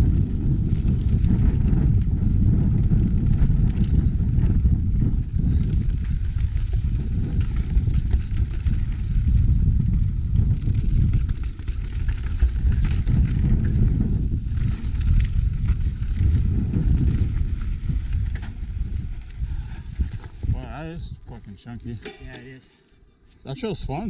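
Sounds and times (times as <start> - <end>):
bike clicks and rattles: 0.0 - 20.5
wind buffeting microphone: 0.0 - 22.0.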